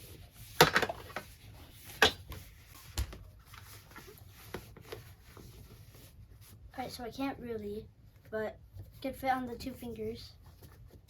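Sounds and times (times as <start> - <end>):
puppet handling rustles: 0.0 - 7.0, 8.0 - 11.0.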